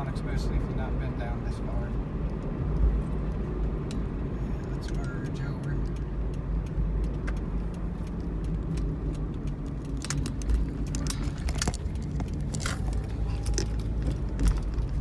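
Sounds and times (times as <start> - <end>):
road and engine noise: 0.0 - 15.0
small clicks and rattles: 2.3 - 15.0.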